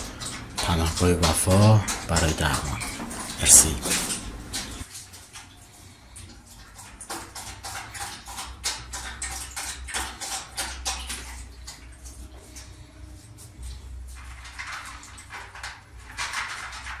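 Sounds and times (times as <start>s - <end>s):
puppy lapping water: 0.0s - 17.0s.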